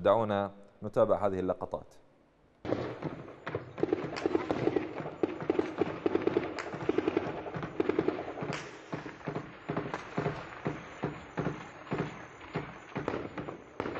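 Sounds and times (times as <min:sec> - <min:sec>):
automatic gunfire: 0:02.7 - 0:13.9.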